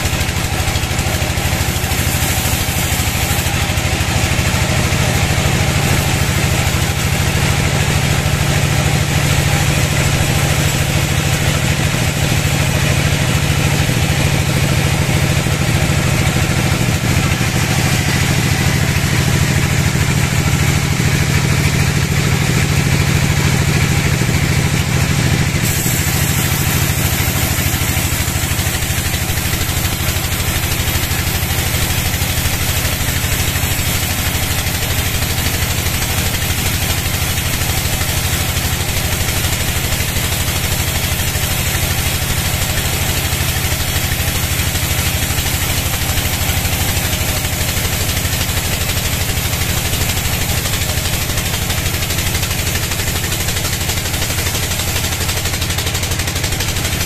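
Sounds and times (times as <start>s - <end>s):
band saw machine drone: 0.0s - 57.0s
saw blade hissing through wood: 0.0s - 57.0s.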